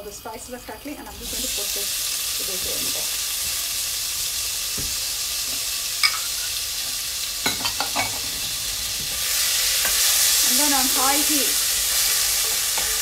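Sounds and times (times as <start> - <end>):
food frying in a pan: 0.0 - 13.0.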